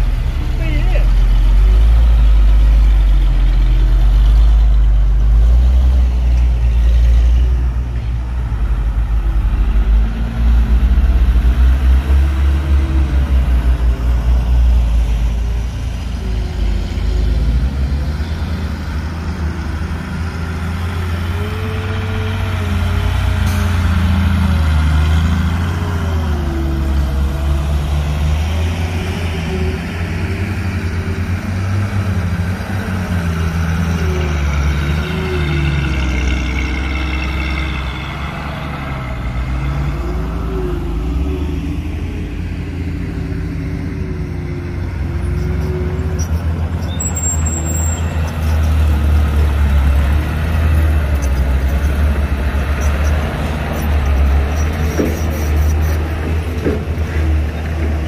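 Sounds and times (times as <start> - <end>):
heavy diesel engine revving: 0.0 - 58.0.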